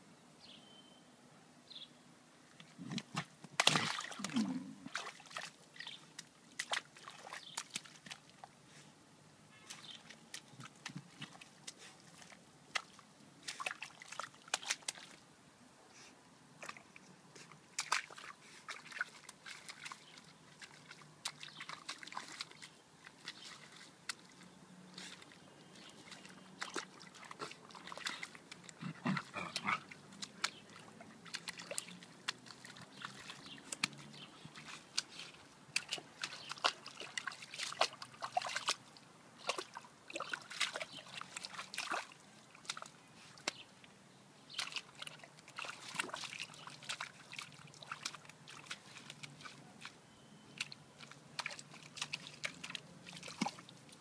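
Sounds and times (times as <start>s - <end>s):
dog splashing in puddle: 2.6s - 8.6s, 9.5s - 15.2s, 16.6s - 43.6s, 44.5s - 54.0s.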